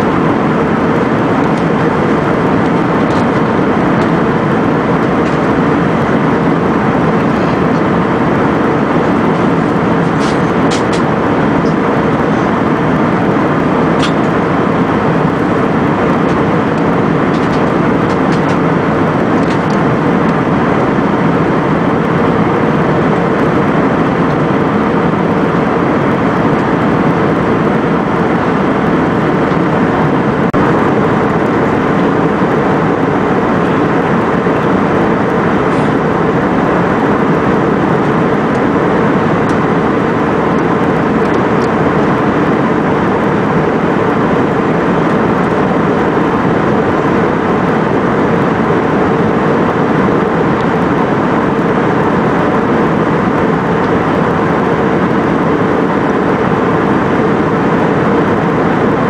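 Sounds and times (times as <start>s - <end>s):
jet airliner cabin noise: 0.0s - 59.0s.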